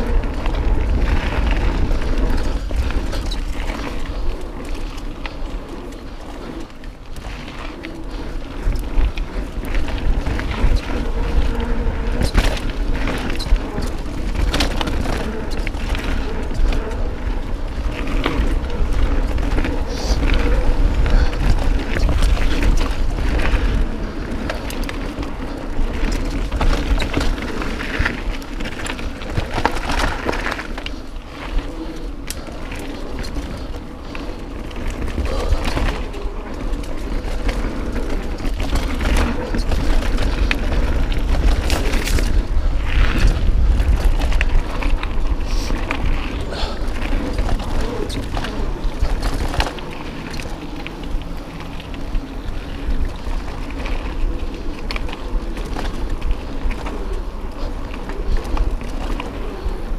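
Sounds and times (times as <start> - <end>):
bike rattling over bumps: 0.0 - 59.9
tyres on dirt trail: 0.0 - 59.9
wind on microphone: 0.0 - 59.9.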